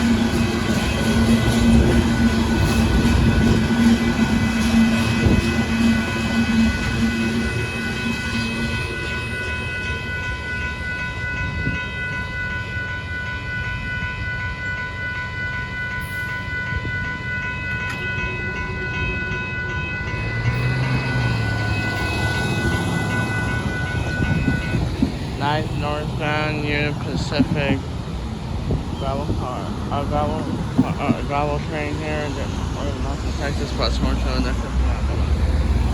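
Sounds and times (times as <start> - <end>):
high ringing tones: 0.0 - 34.6
freight cars rumbling on rails: 0.0 - 35.9.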